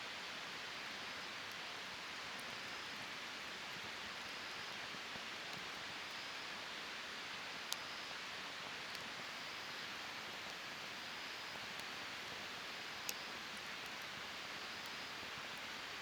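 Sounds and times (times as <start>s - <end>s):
campfire burning with soft hiss: 0.0s - 16.0s.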